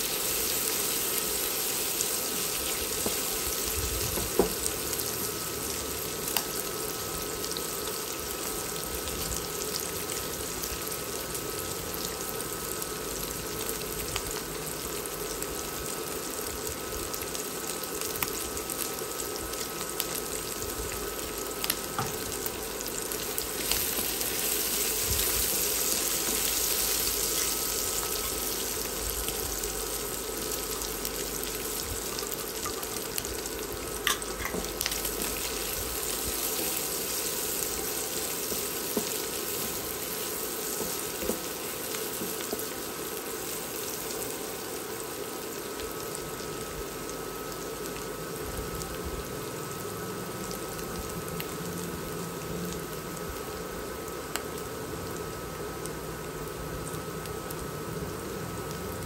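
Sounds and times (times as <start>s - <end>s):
chicken and onion sizzling in a wok: 0.0s - 59.0s.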